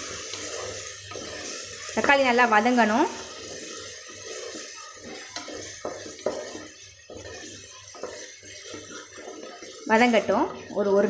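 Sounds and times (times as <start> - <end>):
vegetables frying in oil: 0.0 - 11.0
wooden spatula scraping metal pot: 0.0 - 11.0.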